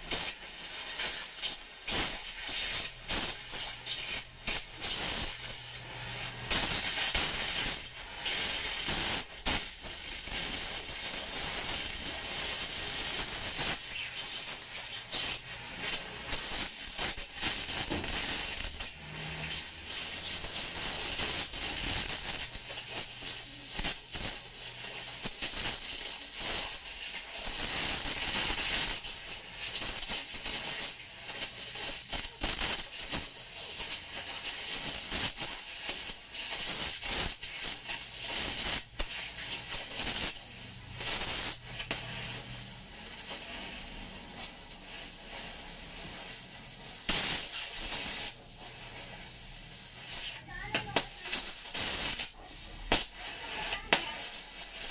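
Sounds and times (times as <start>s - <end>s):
crackles and pops: 0.0s - 54.9s
cutting torch hissing: 0.0s - 54.9s.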